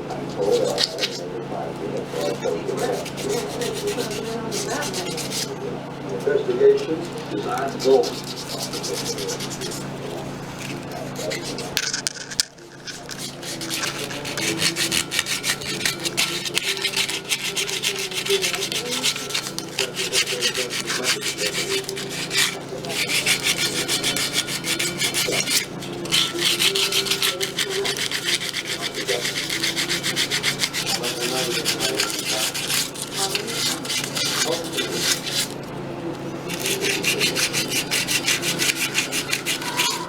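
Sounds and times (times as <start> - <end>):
sandpaper rasping on metal: 2.2 - 5.6, 7.6 - 35.6, 36.4 - 40.0.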